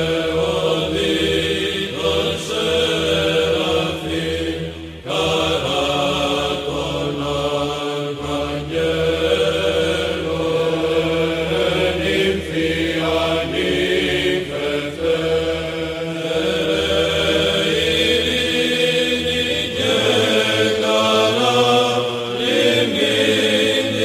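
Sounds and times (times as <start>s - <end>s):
person chanting a slow melody: 0.0s - 24.0s.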